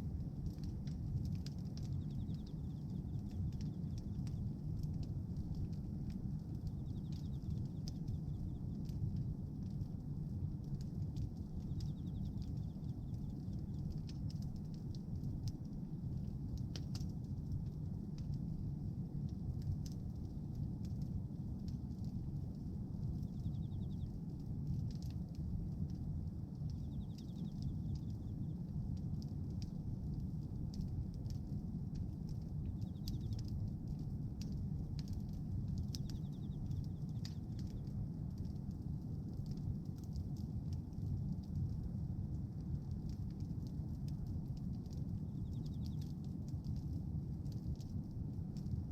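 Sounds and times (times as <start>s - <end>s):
bonfire crackling and popping: 0.0s - 48.9s.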